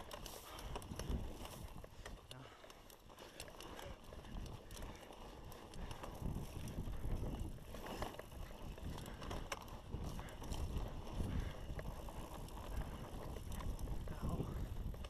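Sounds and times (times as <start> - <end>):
bike clicks and rattles: 0.0 - 15.0
bike tyres rumbling on dirt: 0.0 - 15.0.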